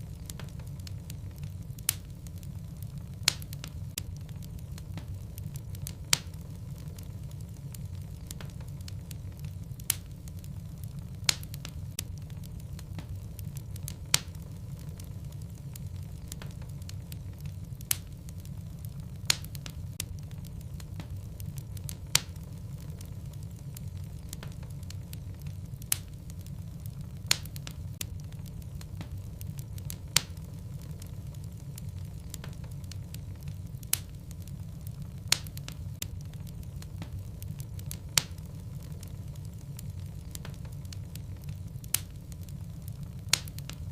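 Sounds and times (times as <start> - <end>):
fire crackling in fireplace: 0.0 - 43.9
flame rumble: 0.0 - 43.9
loud fire pops: 0.0 - 43.9.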